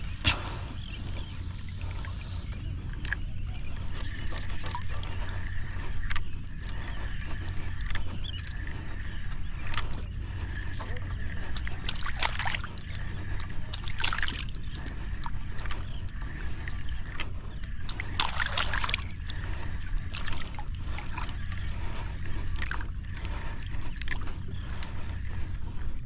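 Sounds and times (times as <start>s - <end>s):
small waves sloshing: 0.0s - 25.9s
wind rumbling on microphone: 0.0s - 26.0s.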